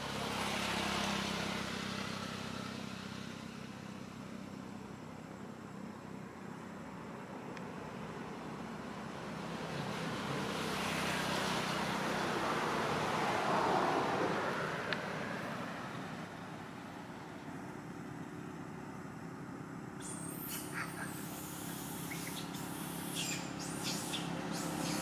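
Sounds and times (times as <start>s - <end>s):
road vehicle passing: 0.0s - 25.0s.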